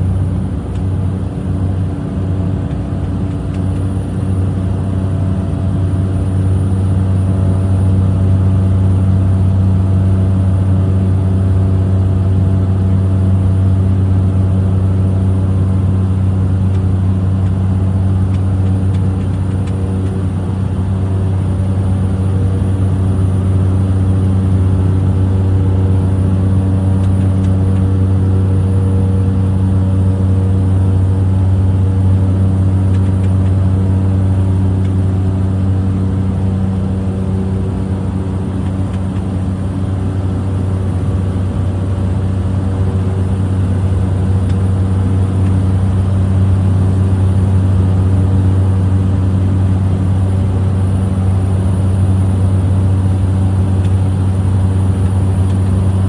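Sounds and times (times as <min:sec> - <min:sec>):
small plane engine droning: 0:00.0 - 0:56.0.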